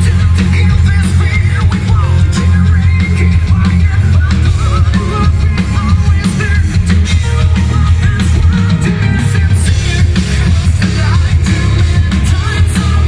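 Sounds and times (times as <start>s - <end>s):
bass guitar: 0.0s - 13.0s
distorted electric guitars: 0.0s - 13.0s
drum kit: 0.0s - 13.0s
keyboards: 0.0s - 13.0s
person singing: 0.0s - 13.0s.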